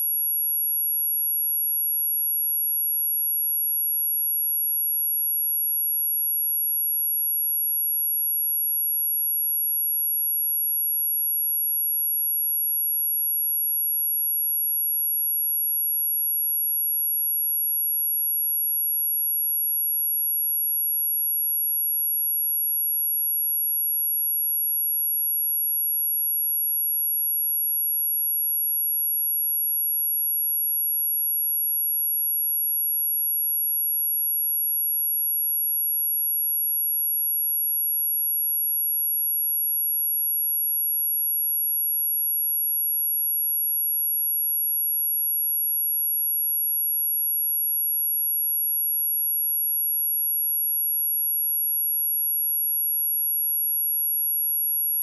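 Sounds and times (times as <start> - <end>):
high-pitched sine test tone: 0.0 - 55.0.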